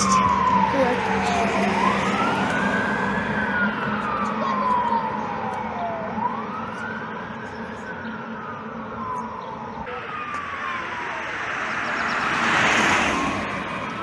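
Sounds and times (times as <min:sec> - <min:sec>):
fire engine siren wailing: 0:00.0 - 0:14.0.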